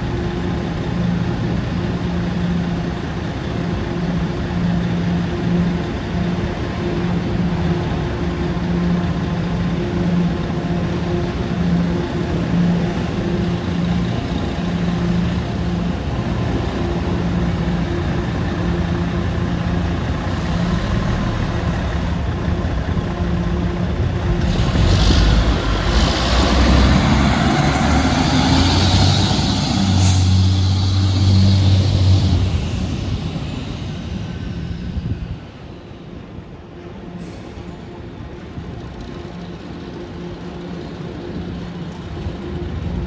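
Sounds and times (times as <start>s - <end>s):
fire engine running: 0.0s - 43.0s.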